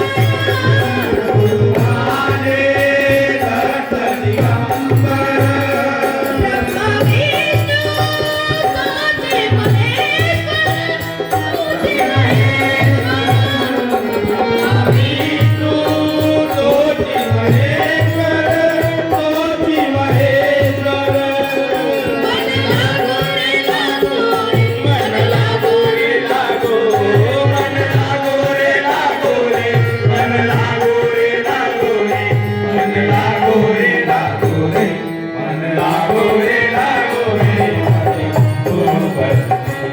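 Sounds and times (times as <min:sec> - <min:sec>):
harmonium: 0:00.0 - 0:39.9
person singing: 0:00.0 - 0:39.9.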